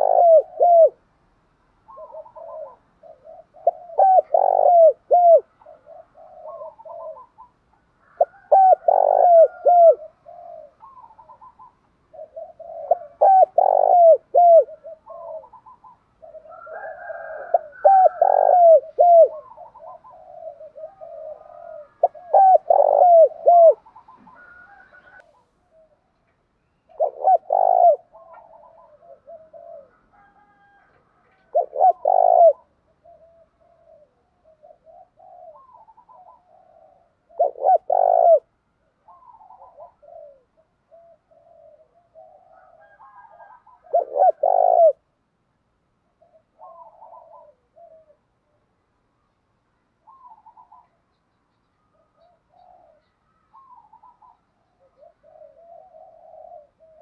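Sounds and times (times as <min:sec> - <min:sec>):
dove cooing: 0:00.0 - 0:01.2, 0:01.8 - 0:26.2, 0:26.8 - 0:45.1, 0:46.0 - 0:48.8, 0:50.0 - 0:51.1, 0:51.9 - 0:57.0.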